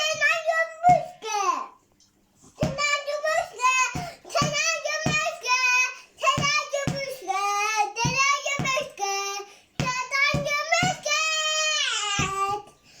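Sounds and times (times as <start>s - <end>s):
toddler singing: 0.0s - 1.8s, 2.6s - 12.8s.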